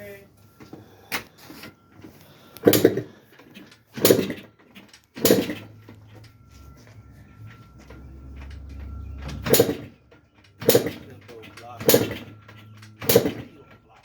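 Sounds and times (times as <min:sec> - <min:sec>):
engine kick-start thumps: 0:00.5 - 0:14.0.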